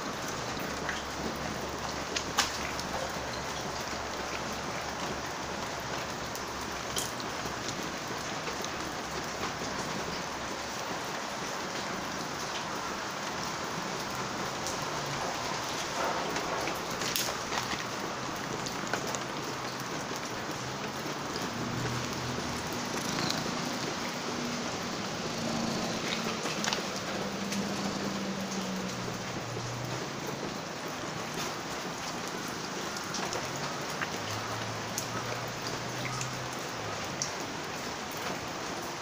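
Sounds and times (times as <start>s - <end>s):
rain pattering: 0.0s - 39.0s
water drip ticks: 0.0s - 39.0s.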